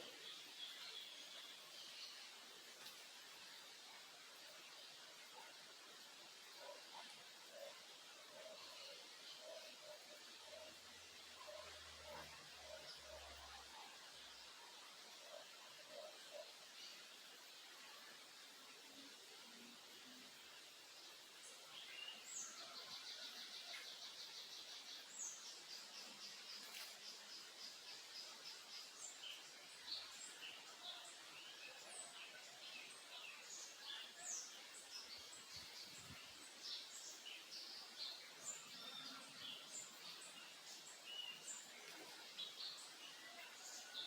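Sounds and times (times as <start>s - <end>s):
faint steady hiss: 0.0s - 44.0s
songbirds chirping: 0.0s - 44.0s.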